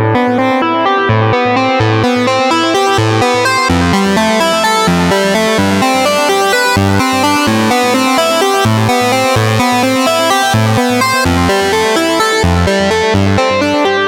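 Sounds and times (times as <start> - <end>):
pulsing bass line: 0.0 - 14.0
fast synth note runs: 1.8 - 13.9.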